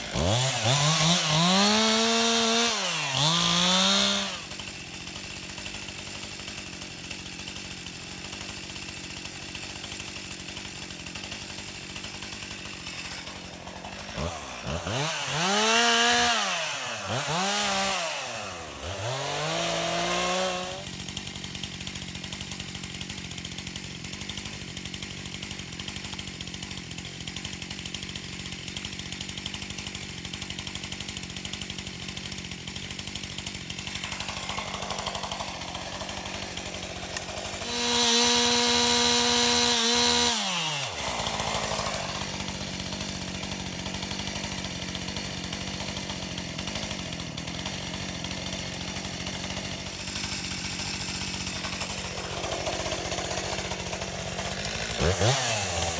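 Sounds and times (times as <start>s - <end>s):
chainsaw cutting tree: 0.0s - 55.9s.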